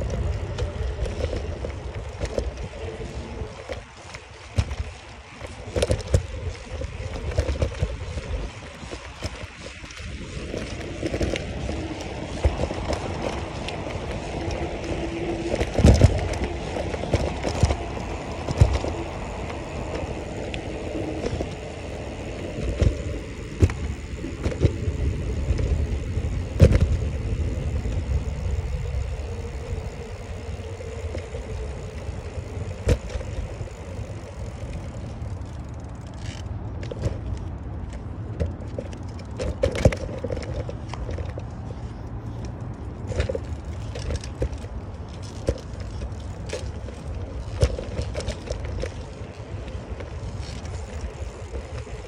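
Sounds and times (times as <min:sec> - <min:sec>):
bike knocks and rattles: 0:00.0 - 0:52.0
tyre and wind rumble: 0:00.0 - 0:52.0.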